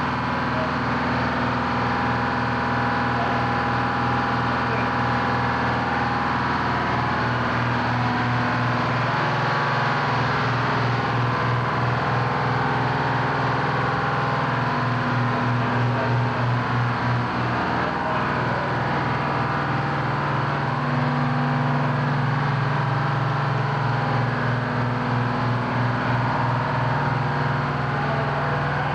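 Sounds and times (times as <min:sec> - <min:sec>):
low pulsing engine hum: 0:00.0 - 0:28.9.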